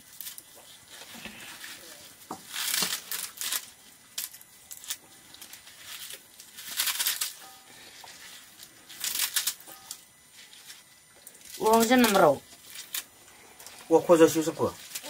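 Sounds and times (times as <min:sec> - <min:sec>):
leafy greens tearing and rustling: 0:00.0 - 0:15.0.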